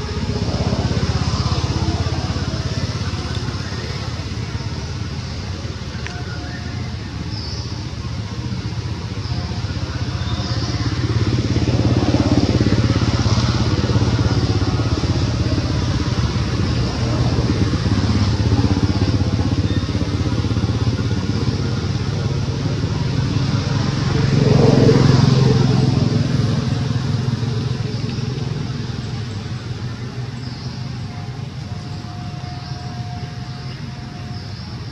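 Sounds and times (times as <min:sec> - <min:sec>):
passing motor traffic: 0:00.0 - 0:34.9.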